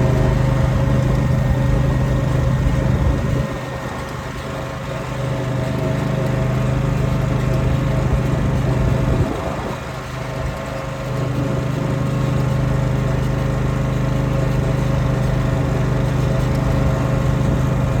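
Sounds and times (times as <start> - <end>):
ride-on mower engine running: 0.0 - 18.0.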